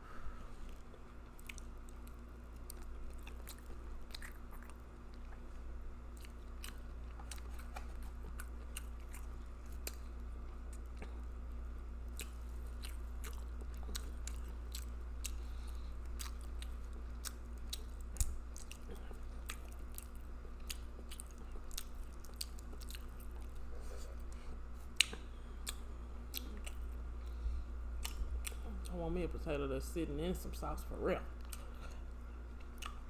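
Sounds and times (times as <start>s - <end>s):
steady low hum: 0.0s - 33.0s
person chewing and lip-smacking: 0.6s - 29.0s, 31.3s - 33.0s.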